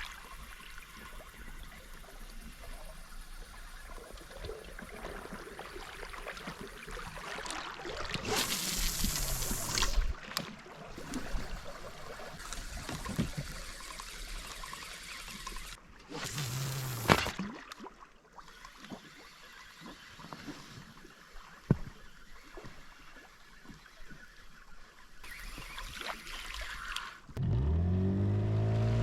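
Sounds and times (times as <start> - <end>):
river water trickling: 0.0 - 28.9.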